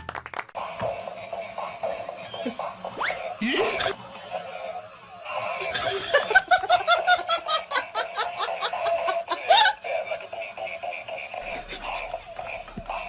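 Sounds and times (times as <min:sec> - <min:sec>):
person laughing: 0:01.2 - 0:13.0.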